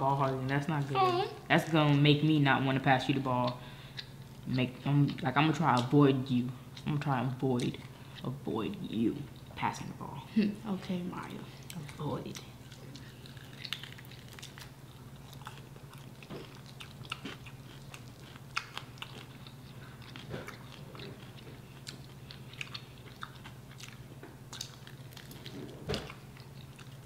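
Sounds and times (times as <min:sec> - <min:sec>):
chewing and crunching: 0:03.0 - 0:09.6, 0:11.2 - 0:27.0.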